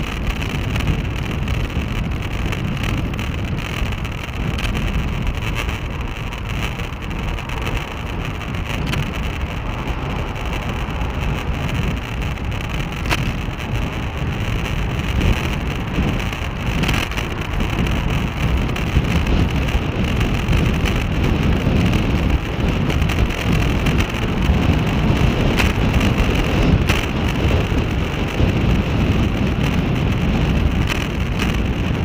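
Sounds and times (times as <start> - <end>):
deep rumble of tyres on road: 0.0 - 32.0
wind rushing over microphone: 0.0 - 32.0.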